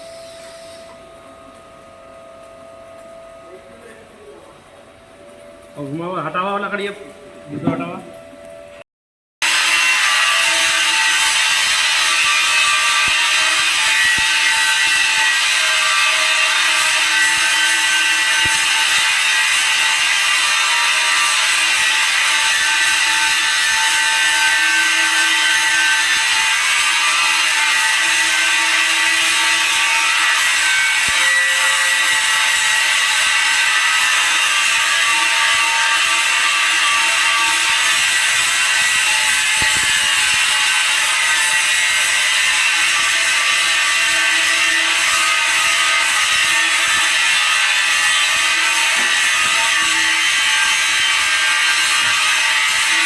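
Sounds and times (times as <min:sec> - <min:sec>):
welding arc hissing: 0:00.1 - 0:01.6, 0:09.4 - 0:53.0.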